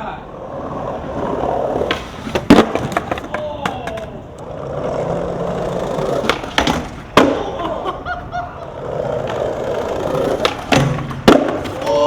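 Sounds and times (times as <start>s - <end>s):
skateboard wheels rolling on pavement: 0.0s - 12.0s
skateboard clacks: 0.7s - 12.0s.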